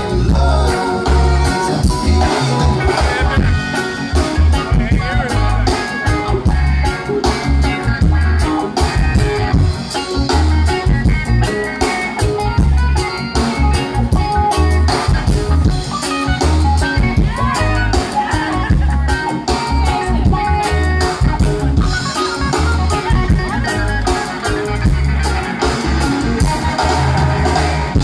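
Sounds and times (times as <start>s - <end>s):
heavy bass line: 0.0s - 28.0s
live reggae band playing: 0.0s - 28.0s.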